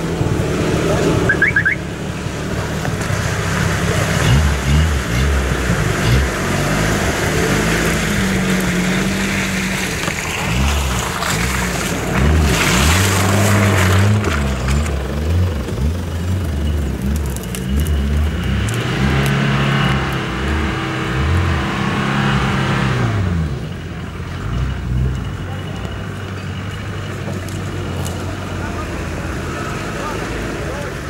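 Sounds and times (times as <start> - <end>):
other vehicle engines: 0.0 - 31.0
pickup engine revving: 0.0 - 31.0.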